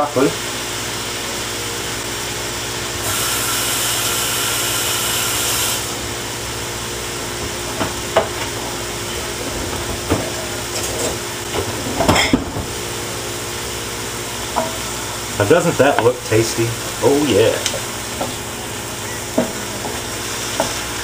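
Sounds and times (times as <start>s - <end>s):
chicken sizzling in a wok: 0.0s - 9.4s, 12.8s - 21.0s.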